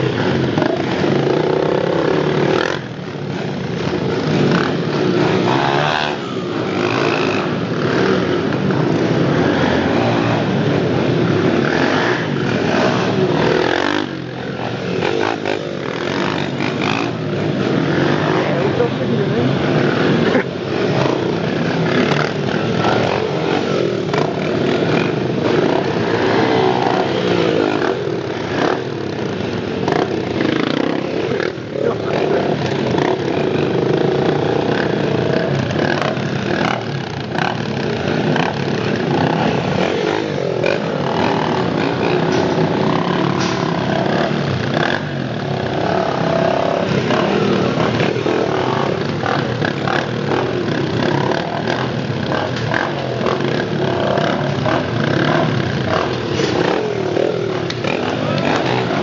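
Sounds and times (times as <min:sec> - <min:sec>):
dirt bikes revving: 0:00.0 - 0:59.0.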